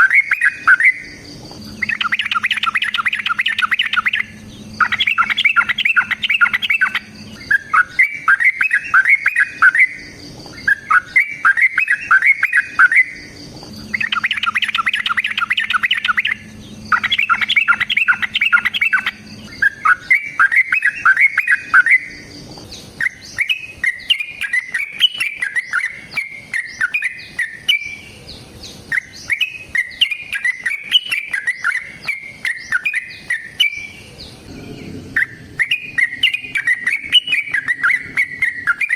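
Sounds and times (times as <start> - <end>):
bird singing rapid chirps: 0.0 - 38.9.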